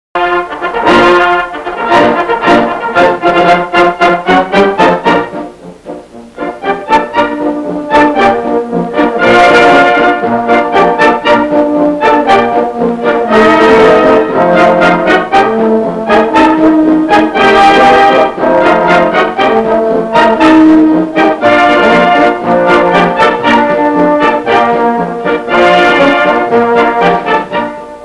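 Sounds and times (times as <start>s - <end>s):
orchestral brass playing held notes: 0.2s - 28.0s.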